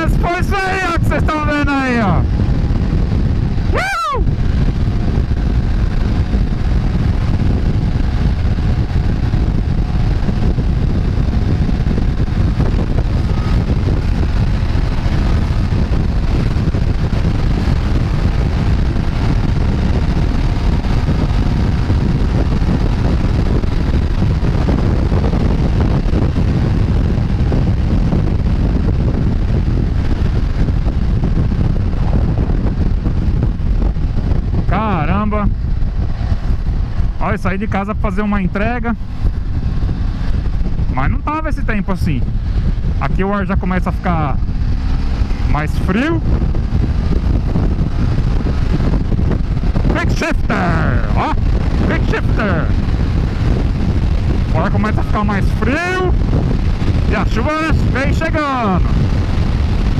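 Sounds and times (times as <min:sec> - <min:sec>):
faint motorcycle engine hum: 0:00.0 - 0:59.9
wind rush on microphone: 0:00.0 - 0:59.9.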